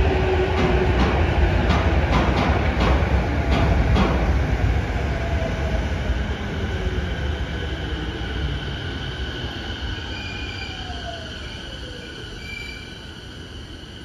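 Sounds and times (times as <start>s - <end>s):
monorail train rumbling past: 0.0s - 14.0s.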